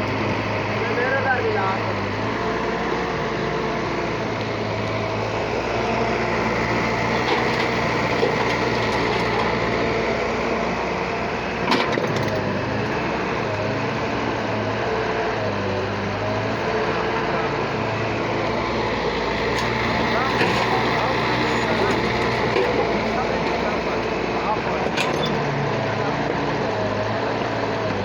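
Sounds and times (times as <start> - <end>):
excavator engine running: 0.0 - 28.0.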